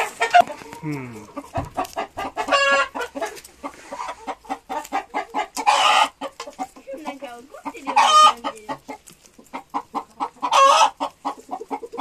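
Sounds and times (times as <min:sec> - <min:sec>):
hens clucking: 0:00.0 - 0:12.0
hens pecking taps: 0:00.0 - 0:12.0.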